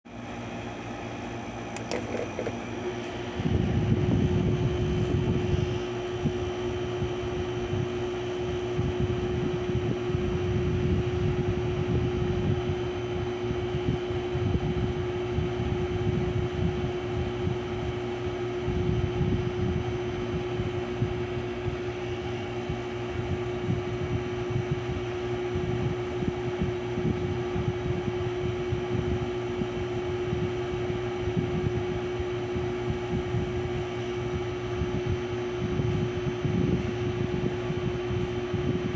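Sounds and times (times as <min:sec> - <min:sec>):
ceiling fan motor hum: 0:00.1 - 0:38.9.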